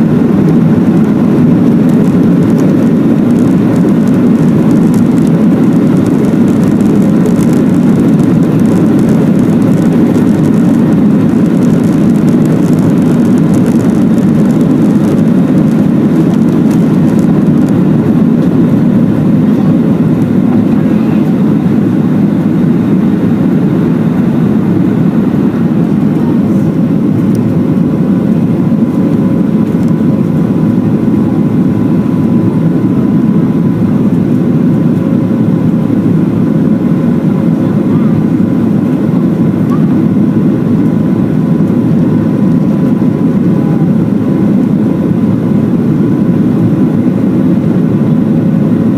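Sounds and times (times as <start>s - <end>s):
faint steady whine: 0.0s - 48.9s
jet engine cabin rush: 0.0s - 48.9s.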